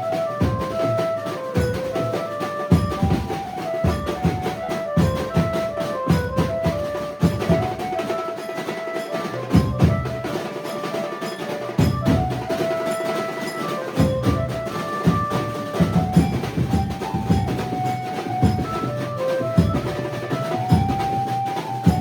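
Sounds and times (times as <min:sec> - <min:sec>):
driving drum beats: 0:00.0 - 0:22.0.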